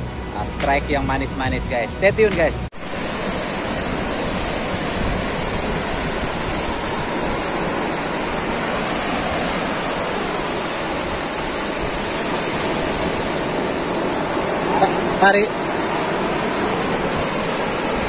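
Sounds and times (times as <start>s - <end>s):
waves breaking on beach: 0.2s - 18.0s.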